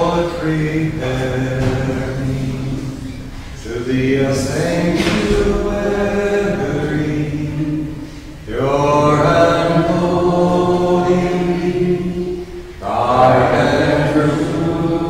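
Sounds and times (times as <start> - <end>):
slow sacred chant: 0.0 - 15.0.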